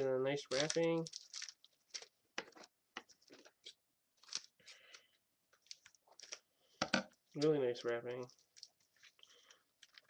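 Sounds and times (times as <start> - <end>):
bubble wrap crinkling: 0.4 - 6.5, 7.4 - 10.0.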